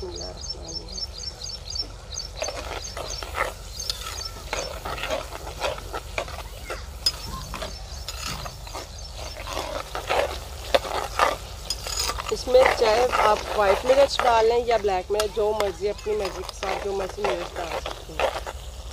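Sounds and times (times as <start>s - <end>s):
bird chirping: 0.0s - 18.9s
spoon scraping clay pot: 2.2s - 18.9s.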